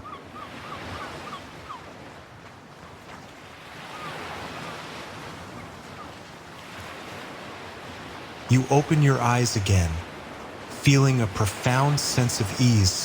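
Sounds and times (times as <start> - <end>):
surf washing on shore: 0.5 - 13.0.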